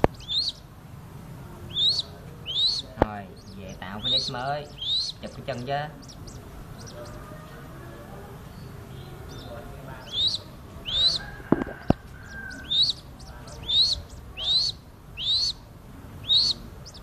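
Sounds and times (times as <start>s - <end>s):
bird chick calling: 0.0s - 0.7s, 1.6s - 17.0s.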